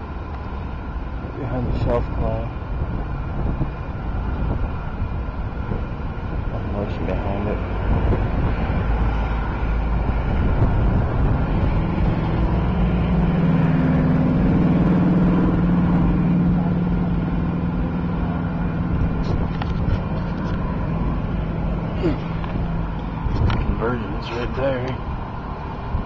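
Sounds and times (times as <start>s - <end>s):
car engine rumble: 0.0s - 26.0s
road and wind noise: 0.0s - 26.0s.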